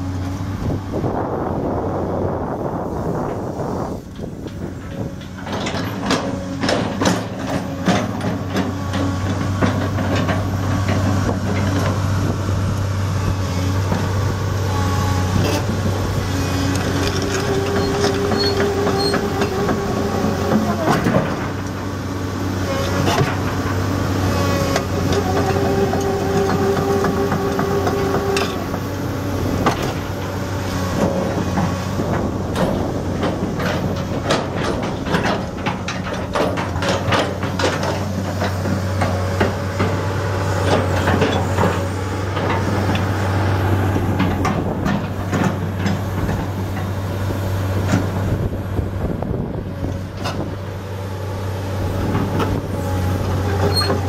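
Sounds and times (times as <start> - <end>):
excavator diesel engine running: 0.0 - 54.0
steel tracks clanking: 2.7 - 12.0, 13.3 - 48.5, 51.7 - 54.0.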